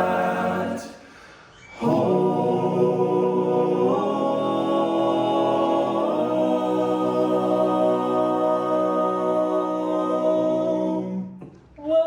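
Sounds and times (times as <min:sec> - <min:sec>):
men singing in harmony: 0:00.0 - 0:01.0, 0:01.8 - 0:11.2.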